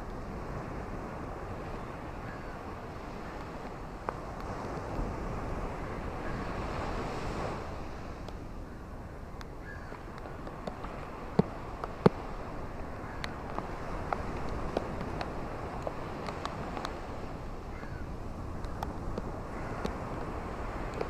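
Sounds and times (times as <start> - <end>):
ocean waves washing ashore: 0.0 - 21.0.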